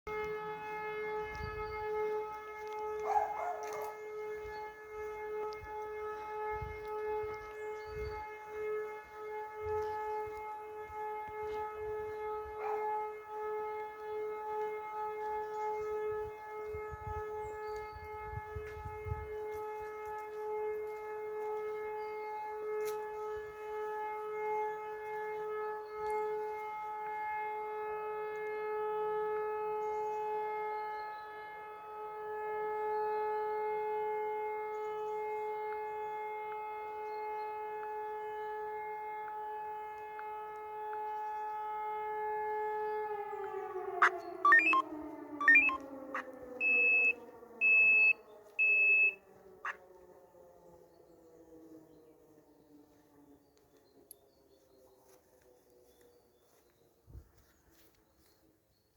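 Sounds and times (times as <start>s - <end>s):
distant siren steady tone: 0.1s - 58.3s.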